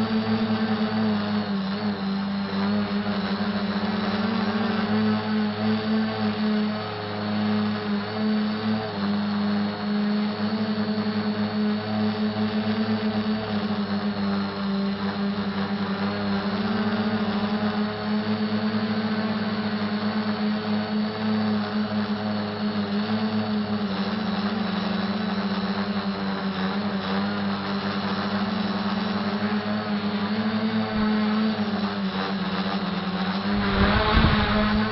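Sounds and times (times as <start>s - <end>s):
quadcopter motors buzzing: 0.0s - 34.9s.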